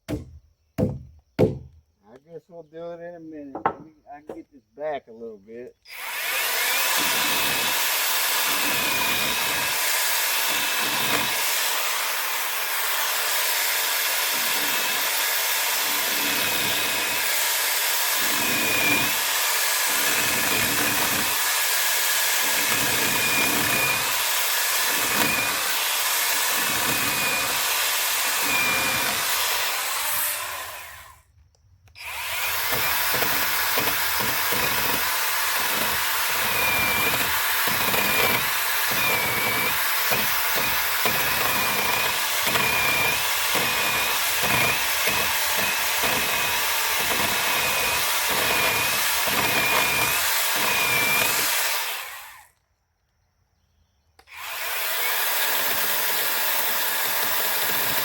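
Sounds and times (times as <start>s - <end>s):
angle grinder grinding wood: 3.5s - 4.4s, 5.9s - 31.3s, 31.9s - 52.5s, 54.2s - 58.0s.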